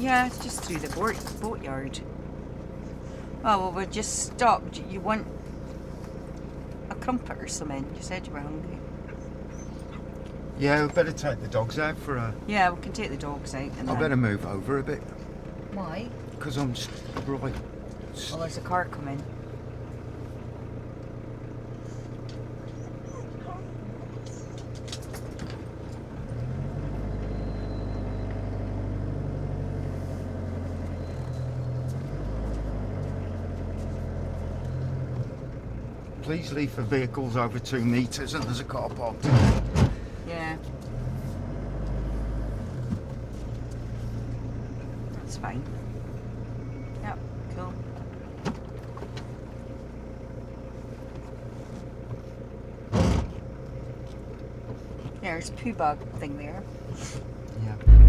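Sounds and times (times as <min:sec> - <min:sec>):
motorhome engine running: 0:00.0 - 0:58.0.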